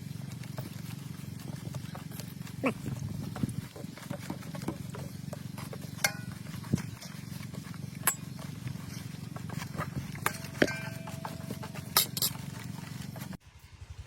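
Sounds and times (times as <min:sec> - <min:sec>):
pot bubbling over fire: 0:00.0 - 0:13.4.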